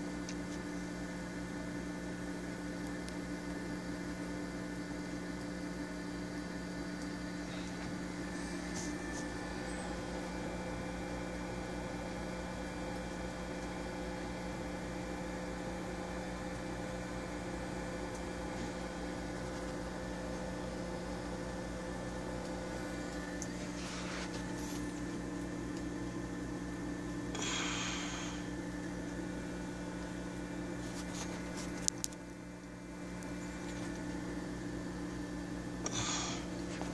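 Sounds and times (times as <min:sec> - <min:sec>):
aquarium equipment humming: 0:00.0 - 0:36.9.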